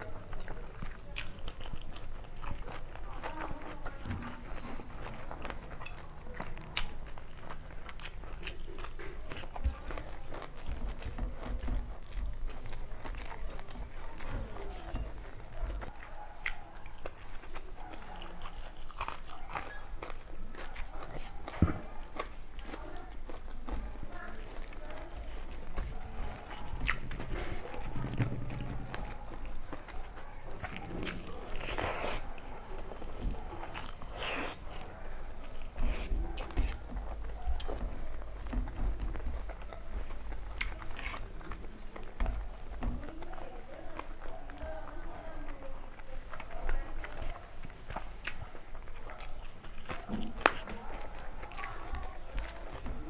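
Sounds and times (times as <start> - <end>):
close chewing: 0.0 - 53.0.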